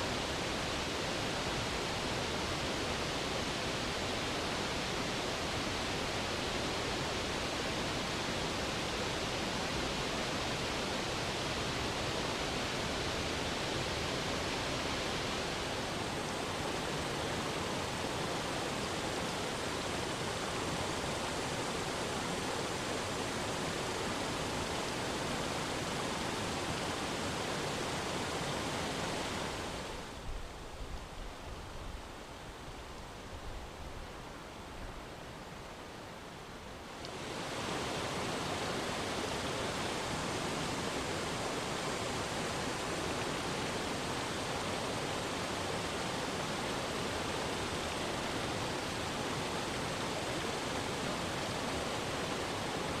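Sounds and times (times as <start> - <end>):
waterfall rushing over rocks: 0.0 - 53.0.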